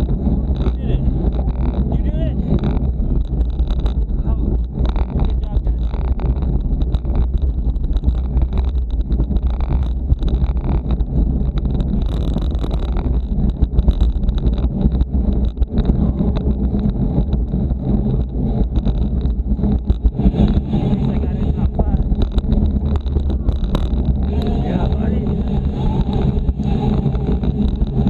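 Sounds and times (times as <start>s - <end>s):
bicycle knocks and rattles: 0.0s - 28.0s
low rumble: 0.0s - 28.0s
wind rushing over microphone: 0.0s - 28.0s.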